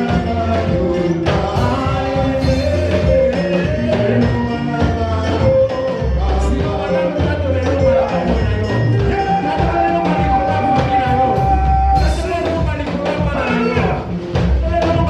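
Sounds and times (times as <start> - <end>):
drum beat: 0.0 - 15.0
live band playing upbeat music: 0.0 - 15.0
person singing: 0.0 - 15.0.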